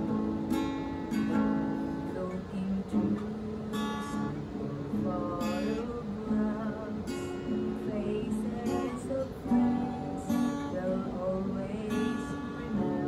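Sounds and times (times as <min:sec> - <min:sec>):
acoustic guitar strummed chords: 0:00.0 - 0:13.0
woman singing: 0:00.0 - 0:13.0.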